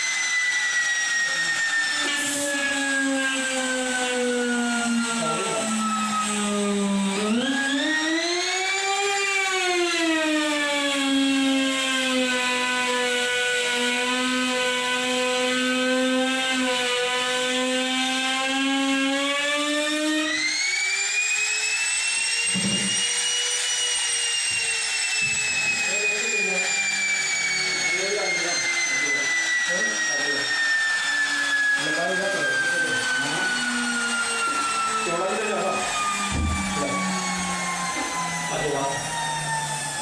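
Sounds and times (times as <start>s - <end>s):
power tool motor whine: 0.0s - 40.0s.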